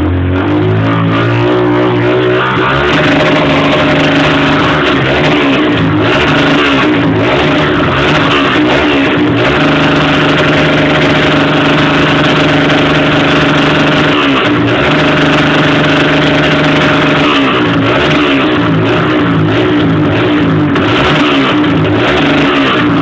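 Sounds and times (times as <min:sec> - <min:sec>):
motorcycle engine with rumble exhaust: 0:00.0 - 0:23.0.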